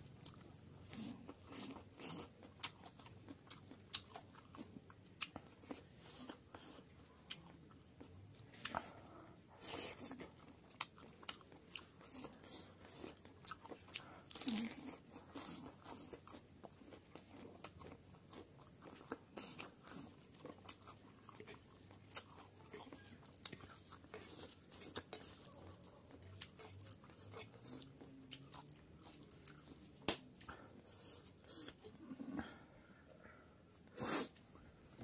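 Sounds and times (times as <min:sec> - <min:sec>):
man chewing and biting: 0:00.2 - 0:08.0, 0:09.6 - 0:31.9.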